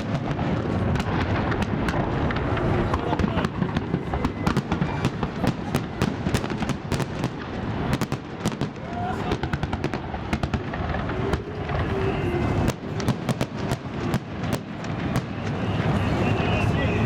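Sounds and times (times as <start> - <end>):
fireworks cracking and banging: 0.0 - 17.0
rumble of fireworks bursts: 0.0 - 17.0.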